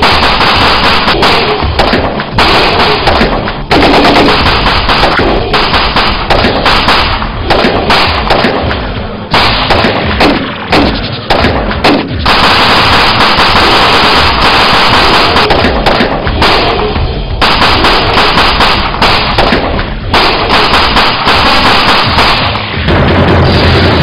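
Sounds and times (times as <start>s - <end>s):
automatic rifle fire: 0.0s - 22.8s
pistol shots: 0.0s - 22.8s.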